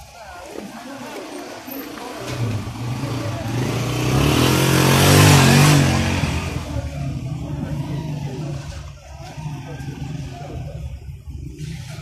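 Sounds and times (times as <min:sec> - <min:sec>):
motor vehicle passing: 0:00.8 - 0:12.0.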